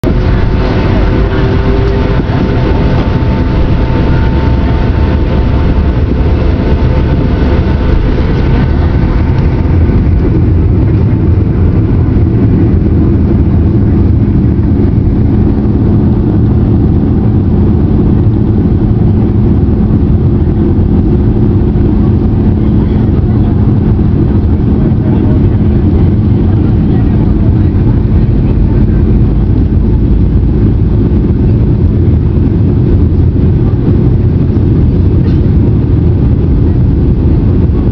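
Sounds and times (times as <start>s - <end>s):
jet engines rumbling in cabin: 0.0s - 37.9s
steady low hum: 0.0s - 37.9s.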